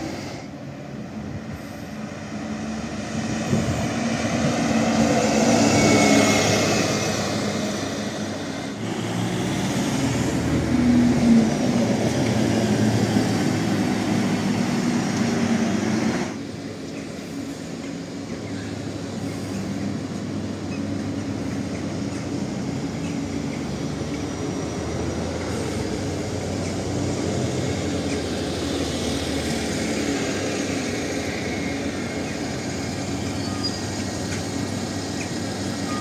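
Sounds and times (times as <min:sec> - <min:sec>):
buses driving past: 0:00.0 - 0:36.0
street traffic: 0:00.0 - 0:36.0.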